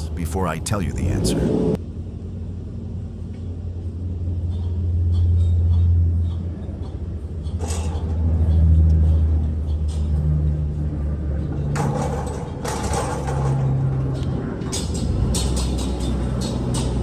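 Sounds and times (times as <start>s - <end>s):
heavy vehicle engine rumble: 0.0s - 17.0s.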